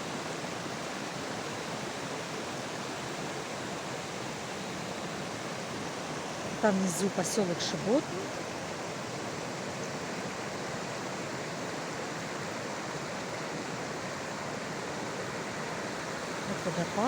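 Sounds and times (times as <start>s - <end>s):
rushing stream: 0.0s - 17.0s.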